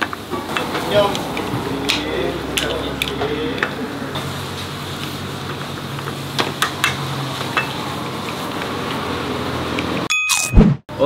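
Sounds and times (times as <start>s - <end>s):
pasta sizzling in pan: 0.0s - 10.0s
gas burner low hum: 0.0s - 10.1s.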